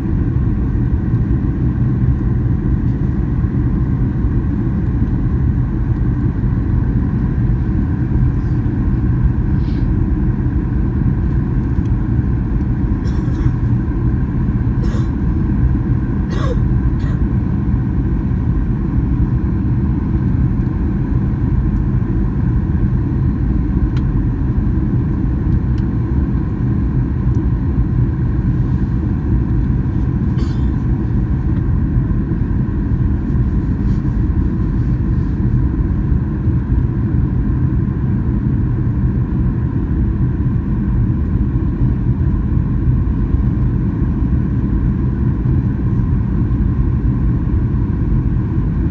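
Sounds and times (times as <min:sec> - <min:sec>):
jet cabin engine rumble: 0:00.0 - 0:48.9.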